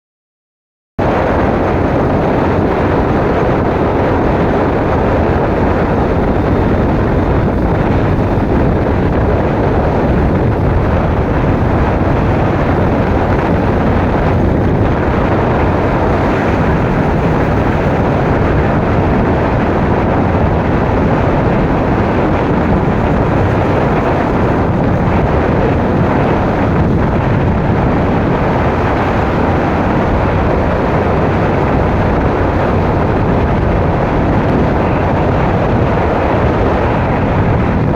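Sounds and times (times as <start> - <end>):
motorcycle engine and road noise: 1.0 - 37.9
wind rushing over microphone: 1.0 - 37.9.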